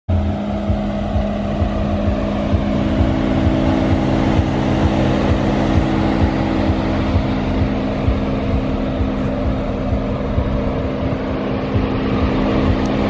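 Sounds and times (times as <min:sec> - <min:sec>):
steady machine hum: 0:00.1 - 0:13.0
wind buffeting microphone: 0:00.1 - 0:13.0.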